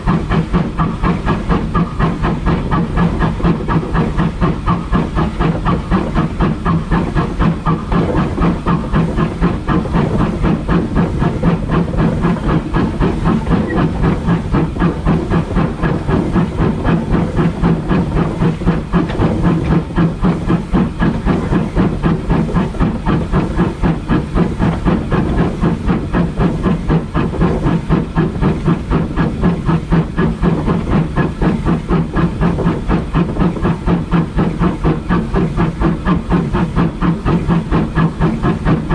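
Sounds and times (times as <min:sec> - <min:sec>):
steam hissing: 0:00.0 - 0:38.9
steam locomotive exhaust beats: 0:00.0 - 0:38.9.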